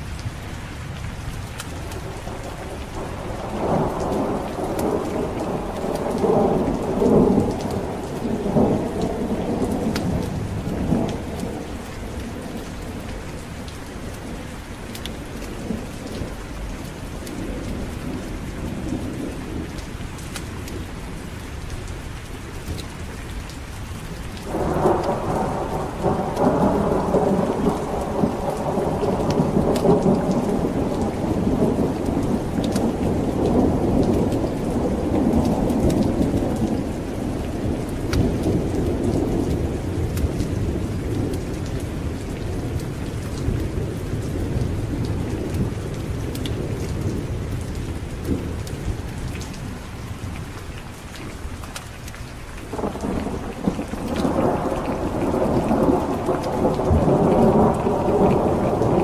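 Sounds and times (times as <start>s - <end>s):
heavy rain falling: 0.0s - 59.0s
thunder rumbling: 1.7s - 19.8s, 24.4s - 50.4s, 52.6s - 59.0s.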